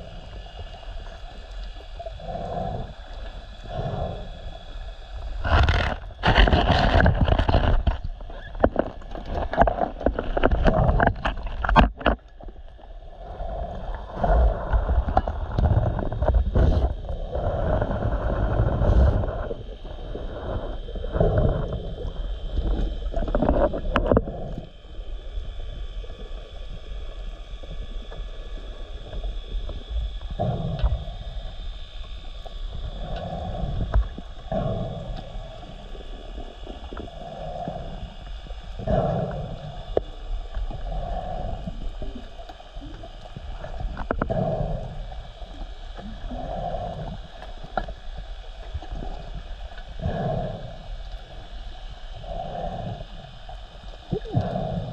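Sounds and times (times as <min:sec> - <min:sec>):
diver breathing through regulator: 0:00.0 - 0:12.1, 0:12.8 - 0:25.0, 0:28.5 - 0:54.9.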